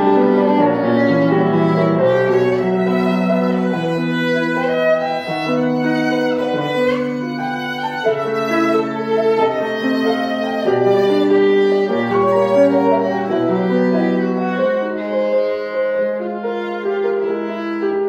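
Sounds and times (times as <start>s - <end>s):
piano accompaniment: 0.0s - 18.0s
violin slow melody: 0.0s - 18.0s.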